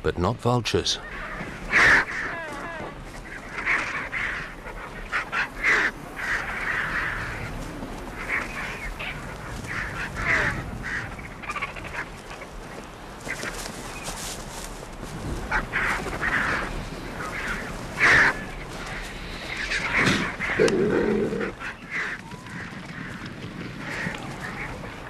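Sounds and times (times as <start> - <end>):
vultures rasping calls and hisses: 1.0 - 14.2, 15.4 - 24.8.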